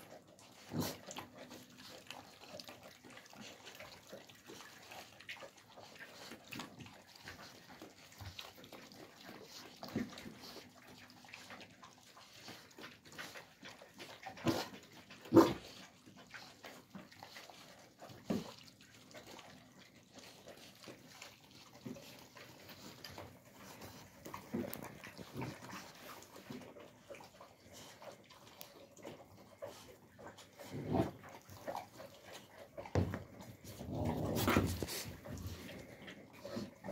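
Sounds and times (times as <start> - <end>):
puppies chewing and slurping: 0.0 - 36.9.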